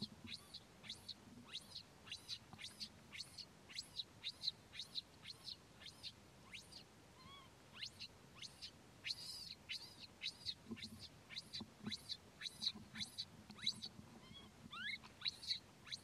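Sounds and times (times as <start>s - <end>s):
baby monkey crying: 0.0s - 16.0s.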